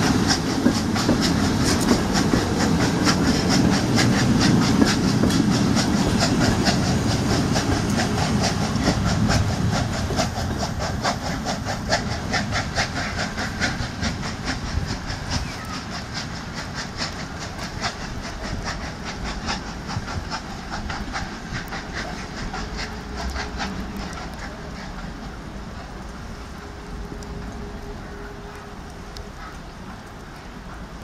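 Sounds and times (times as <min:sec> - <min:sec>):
hissing steam: 0:00.0 - 0:31.0
steam locomotive exhaust chuffs: 0:00.0 - 0:31.0.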